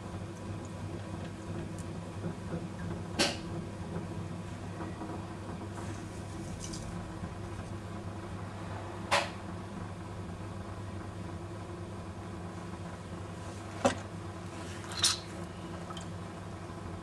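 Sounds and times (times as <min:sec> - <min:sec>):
potter's wheel motor hum: 0:00.0 - 0:17.0.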